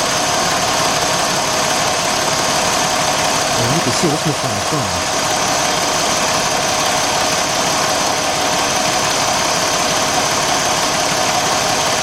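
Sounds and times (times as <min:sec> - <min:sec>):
car engine idling: 0:00.0 - 0:11.3.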